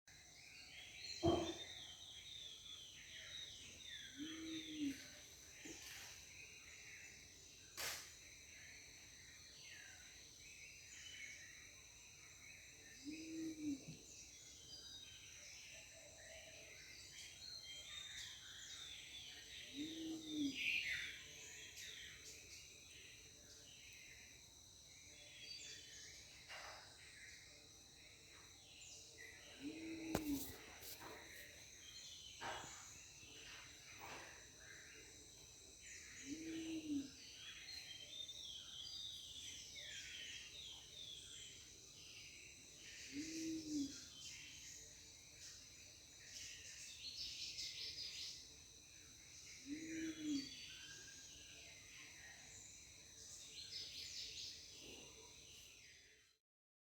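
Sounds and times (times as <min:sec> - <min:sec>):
high insect hum: 0:00.1 - 0:56.1.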